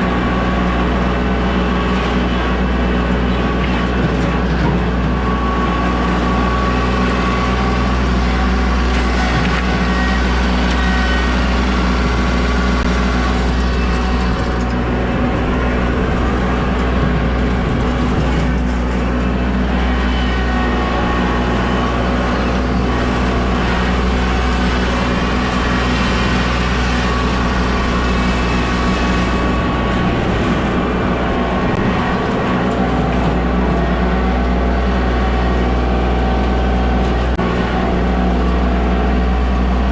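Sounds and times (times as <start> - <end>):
heavy engine droning: 0.0 - 39.9.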